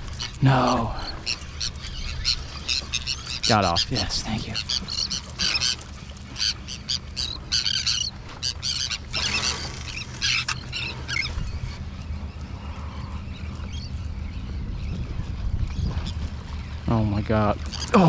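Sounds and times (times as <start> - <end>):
low steady hum: 0.0 - 18.0
seabirds squawking: 0.0 - 18.0.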